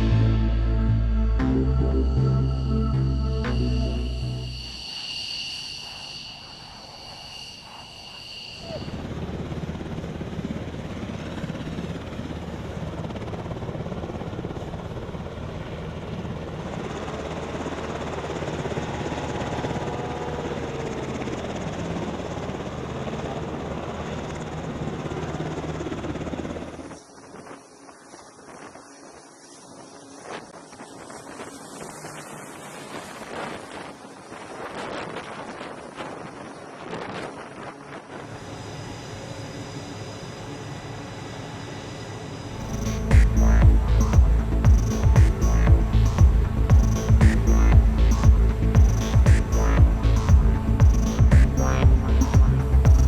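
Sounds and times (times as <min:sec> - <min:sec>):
helicopter rotor and turbine: 0:01.8 - 0:53.0.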